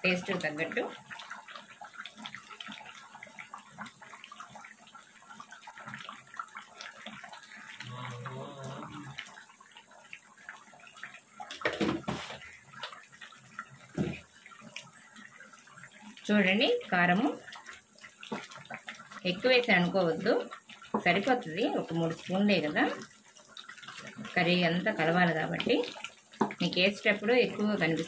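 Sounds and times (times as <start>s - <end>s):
pot boiling and bubbling: 0.0s - 28.0s.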